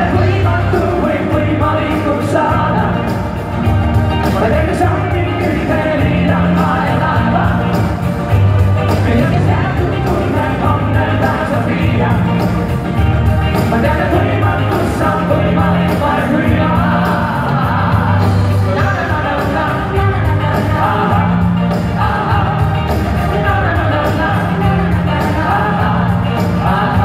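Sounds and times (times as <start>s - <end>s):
man and woman singing duet: 0.0s - 3.2s, 4.3s - 7.9s, 8.9s - 12.6s, 13.6s - 27.0s
backing singers: 0.0s - 27.0s
live band playing: 0.0s - 27.0s.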